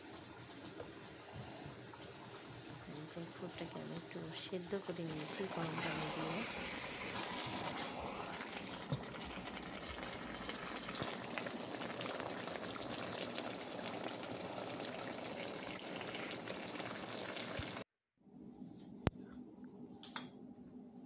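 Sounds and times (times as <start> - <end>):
meat and onions sizzling: 0.0 - 17.8.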